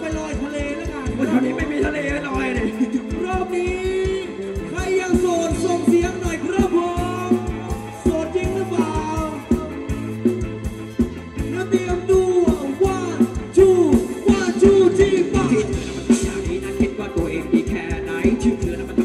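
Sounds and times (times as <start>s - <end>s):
steady drumbeat: 0.0s - 19.0s.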